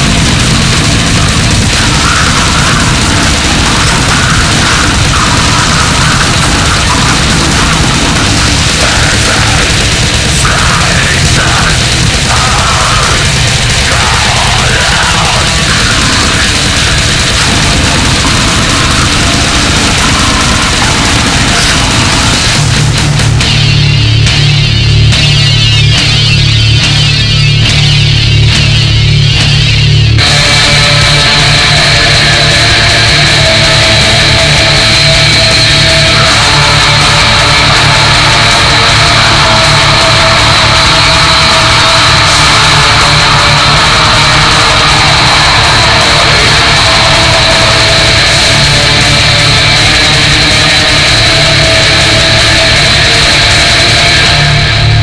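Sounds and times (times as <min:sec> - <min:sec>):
death metal music: 0:00.0 - 0:55.0.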